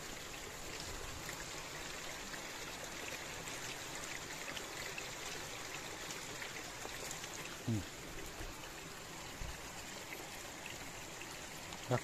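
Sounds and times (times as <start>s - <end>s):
water trickling over stones: 0.0s - 12.0s.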